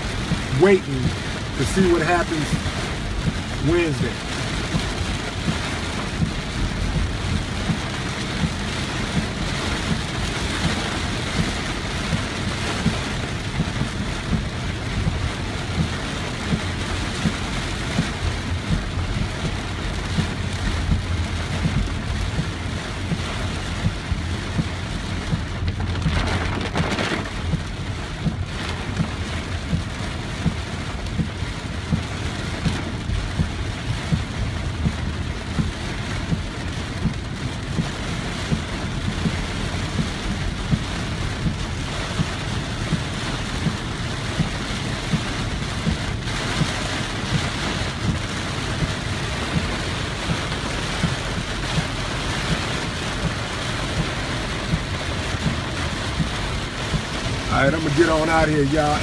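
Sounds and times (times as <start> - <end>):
hard rain on car roof: 0.0 - 59.0
low rumble of car: 0.0 - 59.0.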